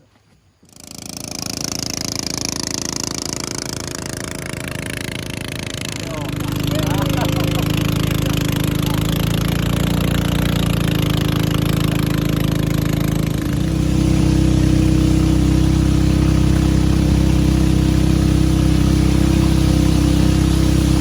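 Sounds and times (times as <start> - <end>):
small engine revving: 0.3 - 21.0.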